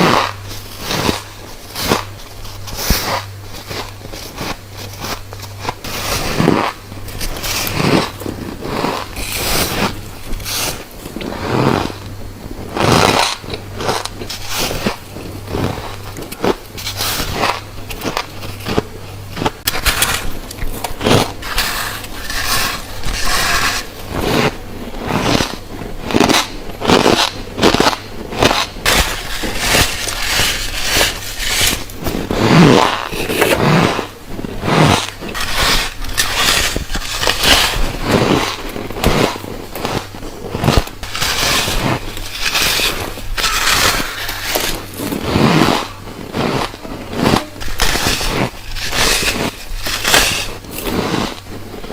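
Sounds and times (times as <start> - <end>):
crunchy frost being chewed: 0.0 - 51.9.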